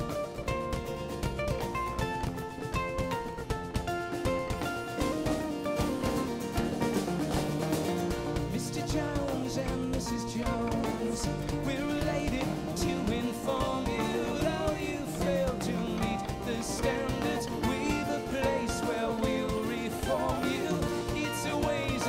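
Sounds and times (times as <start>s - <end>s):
bass: 0.0s - 22.0s
drums: 0.0s - 22.0s
mandolin: 0.0s - 22.0s
strummed acoustic guitar: 0.0s - 22.0s.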